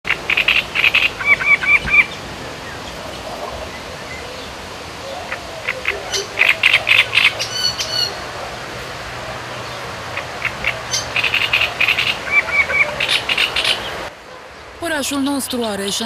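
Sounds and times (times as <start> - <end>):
birds chirping: 0.0 - 16.0
faint outdoor hiss: 0.1 - 16.0.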